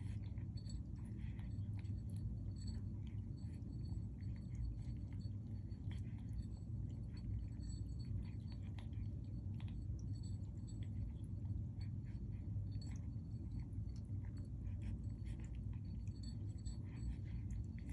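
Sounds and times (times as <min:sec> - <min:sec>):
cat chewing and lapping: 0:00.0 - 0:17.9
steady low hum: 0:00.0 - 0:17.9.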